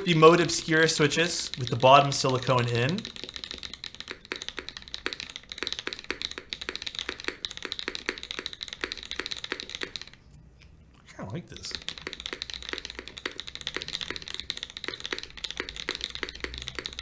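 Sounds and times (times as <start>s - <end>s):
typing on mechanical keyboard: 0.0s - 10.2s, 11.5s - 17.0s.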